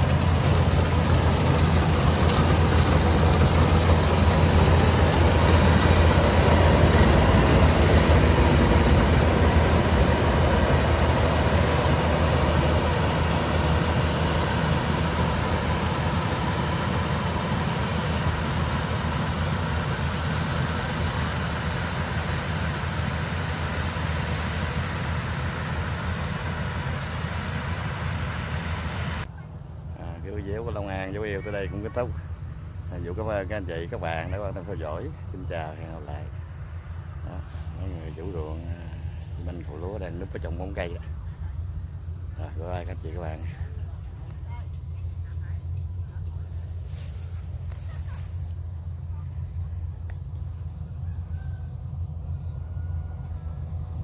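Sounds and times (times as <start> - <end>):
combine harvester engine hum: 0.0 - 54.0.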